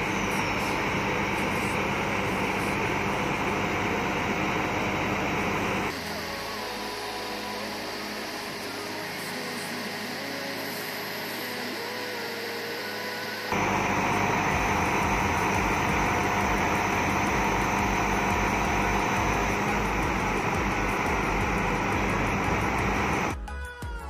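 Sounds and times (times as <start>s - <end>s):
crane engine and hydraulics drone: 0.0s - 23.4s.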